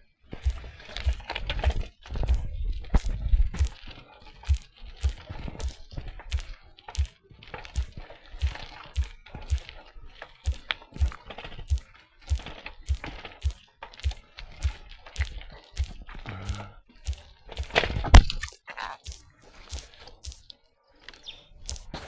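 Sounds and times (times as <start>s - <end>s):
footsteps thumping: 0.3s - 3.8s, 4.4s - 20.5s, 21.7s - 22.0s
light scuffing: 0.3s - 18.1s, 19.1s - 20.5s.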